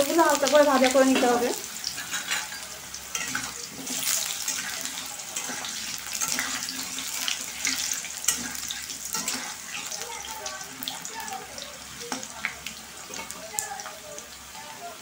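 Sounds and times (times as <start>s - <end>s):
potato wedges sizzling in oil: 0.0s - 15.0s
spatula turning food in wok: 0.1s - 14.8s.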